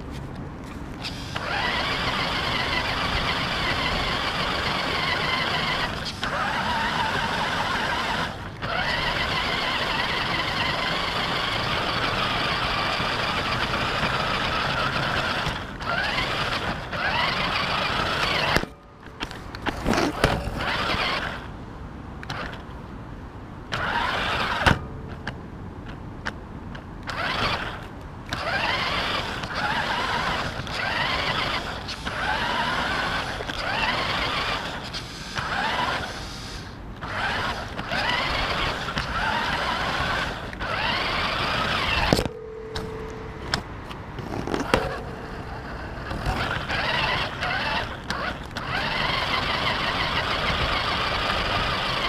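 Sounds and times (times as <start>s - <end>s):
toy car electric motor whining: 1.0s - 21.5s, 23.7s - 24.8s, 27.0s - 42.3s, 44.3s - 52.0s.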